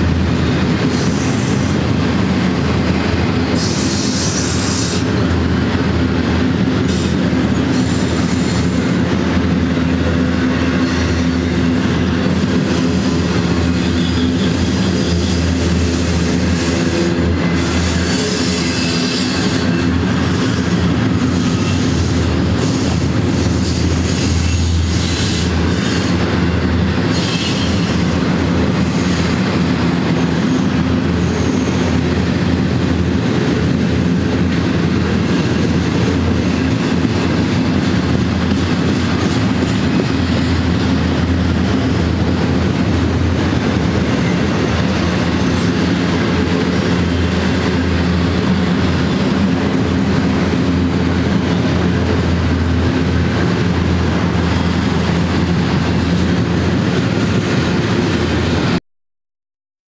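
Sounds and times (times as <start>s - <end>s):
freight train wheels on rail: 0.0s - 58.8s
rattling train cars: 0.0s - 58.8s.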